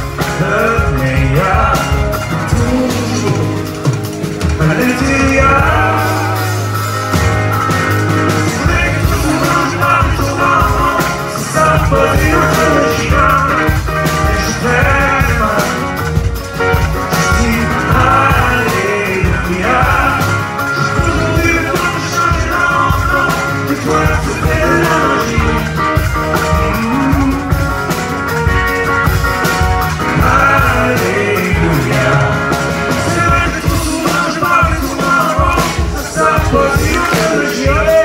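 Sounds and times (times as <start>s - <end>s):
man singing: 0.0s - 7.2s, 7.9s - 28.4s, 29.5s - 38.0s
drum kit beat: 0.0s - 38.0s
electric guitars: 0.0s - 38.0s.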